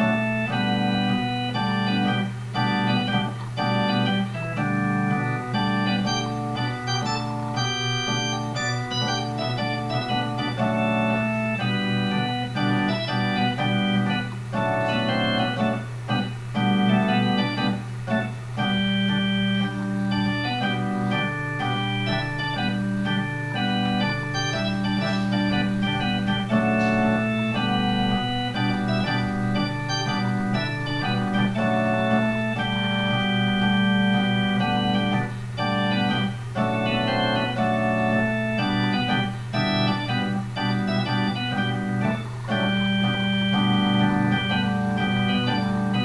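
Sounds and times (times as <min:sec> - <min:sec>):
electronic organ chords and melody: 0:00.0 - 0:46.0.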